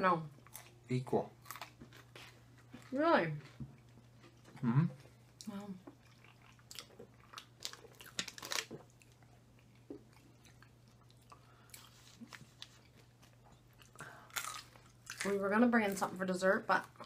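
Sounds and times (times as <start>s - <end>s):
chewing and crunching food: 0.3s - 17.0s.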